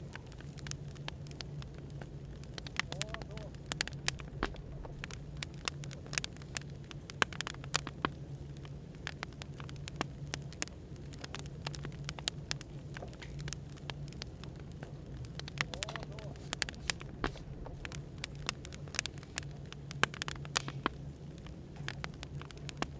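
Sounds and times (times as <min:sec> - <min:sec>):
cafe background hum: 0:00.0 - 0:22.9
wood fire crackling: 0:00.0 - 0:22.9.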